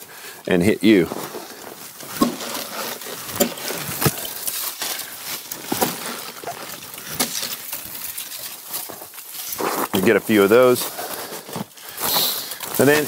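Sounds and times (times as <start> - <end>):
dry twigs crackling and snapping: 1.3 - 13.0.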